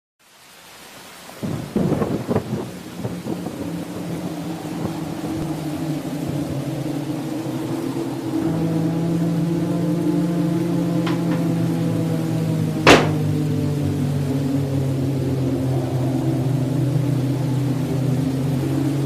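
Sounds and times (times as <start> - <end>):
steady rain: 0.2 - 19.0
thunderclap rolling: 1.4 - 19.0
low two-tone drone: 1.5 - 19.0.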